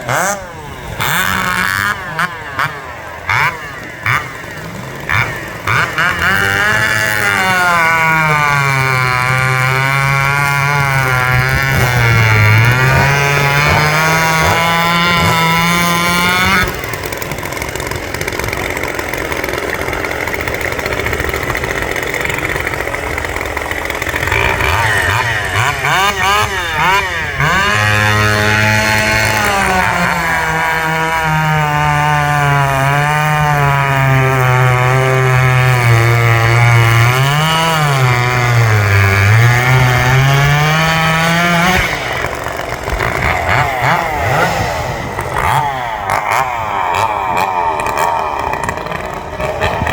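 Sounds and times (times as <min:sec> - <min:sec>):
racing chainsaws at full throttle: 0:00.0 - 0:49.9.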